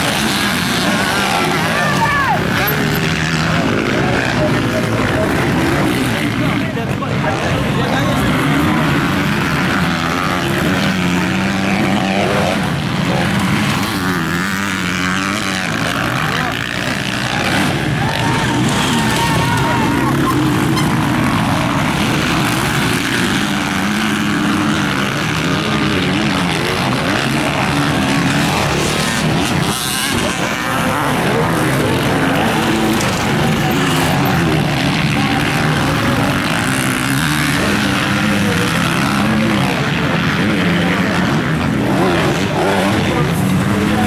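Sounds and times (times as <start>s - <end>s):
motocross bikes revving: 0.0s - 44.0s.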